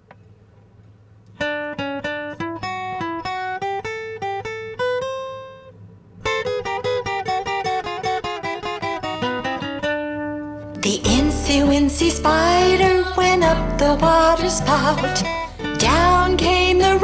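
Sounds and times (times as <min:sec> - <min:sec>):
acoustic guitar picking melody: 0:01.4 - 0:17.0.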